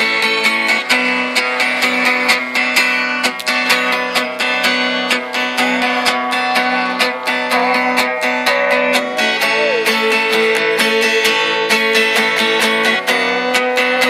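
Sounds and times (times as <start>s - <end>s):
acoustic guitar strumming: 0.0s - 14.0s
sliding guitar melody note: 0.0s - 14.0s.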